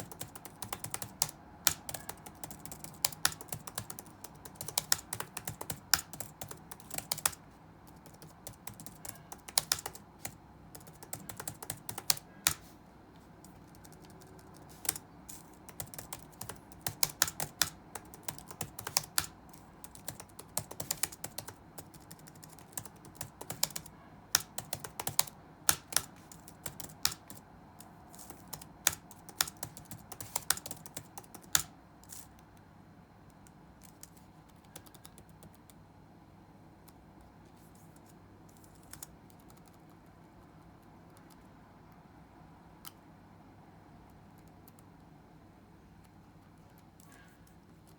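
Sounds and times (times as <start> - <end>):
typing on computer keyboard: 0.0 - 12.7, 13.4 - 32.4, 33.3 - 35.8, 38.0 - 41.5, 44.3 - 45.1
faint room hum: 0.0 - 47.9.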